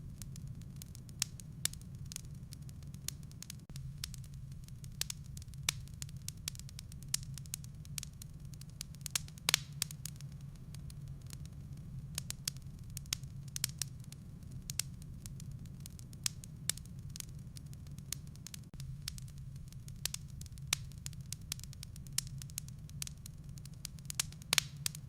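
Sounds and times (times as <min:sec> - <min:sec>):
low fire rumble: 0:00.0 - 0:25.0
wood fire crackling and popping: 0:00.0 - 0:25.0.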